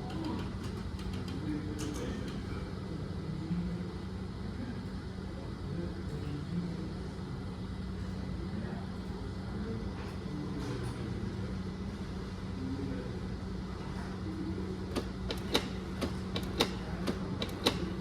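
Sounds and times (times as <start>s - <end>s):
printer mechanical hum: 0.0s - 18.0s.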